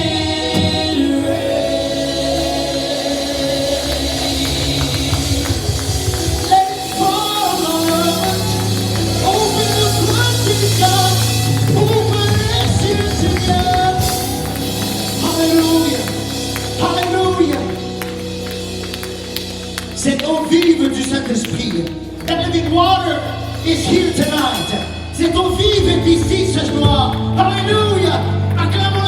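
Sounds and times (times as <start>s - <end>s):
held bass chords: 0.0s - 29.0s
person singing worship melody: 0.0s - 29.0s.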